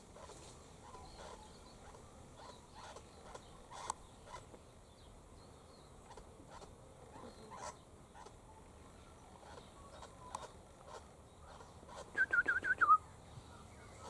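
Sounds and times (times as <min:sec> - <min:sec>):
short bird calls: 0:00.2 - 0:04.5, 0:06.0 - 0:14.0.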